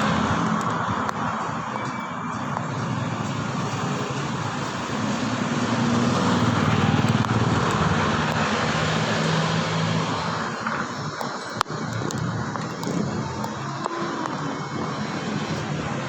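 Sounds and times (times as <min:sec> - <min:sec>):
vehicle engine droning: 0:00.0 - 0:16.0
wind and road noise: 0:00.0 - 0:16.0.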